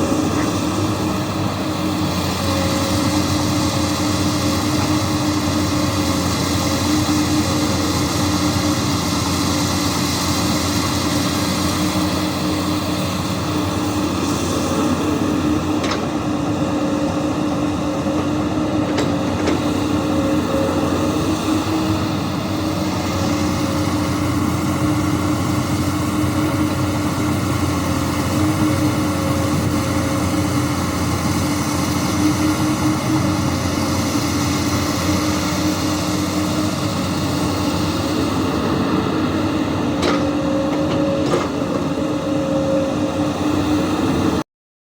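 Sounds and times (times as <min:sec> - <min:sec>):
excavator diesel engine running: 0:00.0 - 0:44.4.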